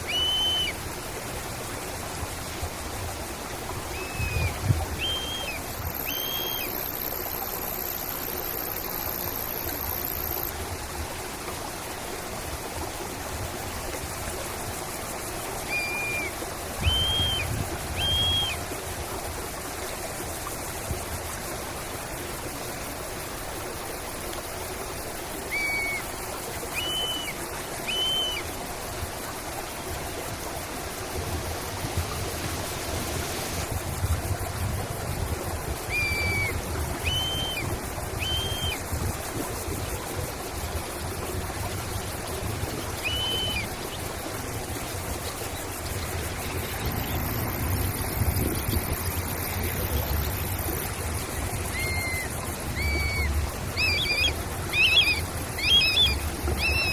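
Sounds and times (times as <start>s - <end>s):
stream running: 0.0s - 56.9s.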